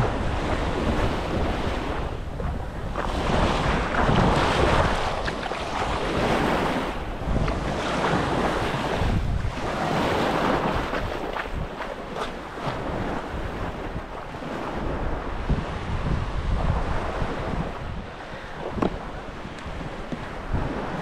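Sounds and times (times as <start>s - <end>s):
waves washing up shore: 0.0s - 21.0s
wind on microphone: 0.0s - 21.0s.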